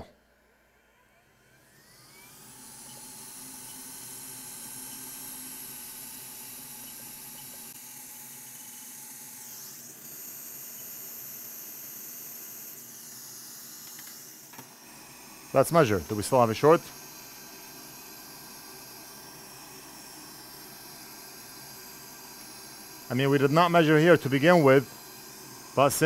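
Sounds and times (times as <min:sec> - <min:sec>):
faint motor hum: 0:00.0 - 0:26.0
hot air blower hissing: 0:01.4 - 0:26.0.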